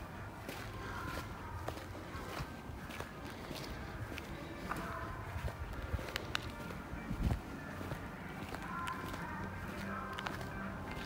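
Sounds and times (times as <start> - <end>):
footsteps on rough concrete: 0.0 - 11.0.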